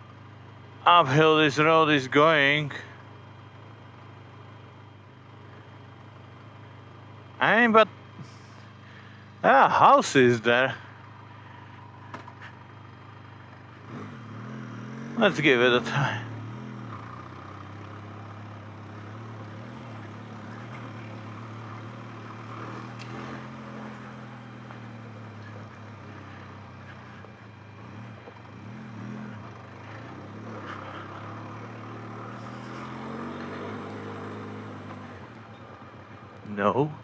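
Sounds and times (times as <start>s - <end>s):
motorcycle engine running at low revs: 0.0s - 37.0s.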